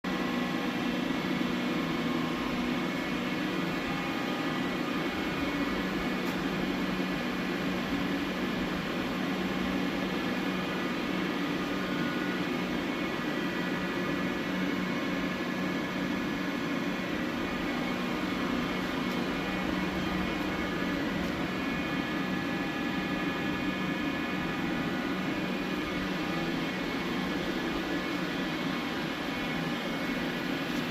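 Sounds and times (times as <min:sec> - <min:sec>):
lathe mechanical hum: 0:00.1 - 0:30.9.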